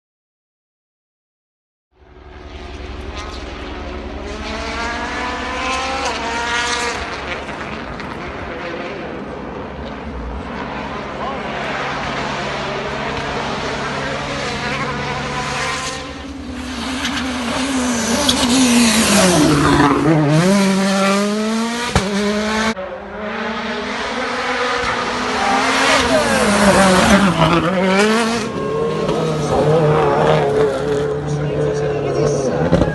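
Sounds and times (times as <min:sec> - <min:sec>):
rally car engine braking and accelerating: 0:02.0 - 0:32.9.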